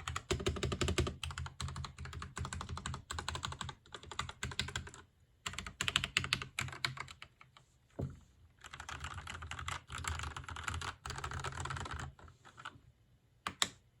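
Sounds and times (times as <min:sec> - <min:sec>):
mechanical keyboard typing: 0:00.0 - 0:07.3, 0:08.6 - 0:12.7, 0:13.5 - 0:13.8.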